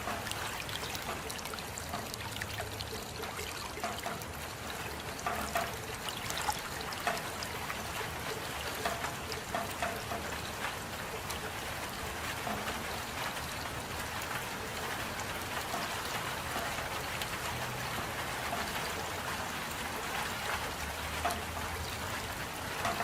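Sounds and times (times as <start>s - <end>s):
steady rain hissing: 0.0s - 23.0s.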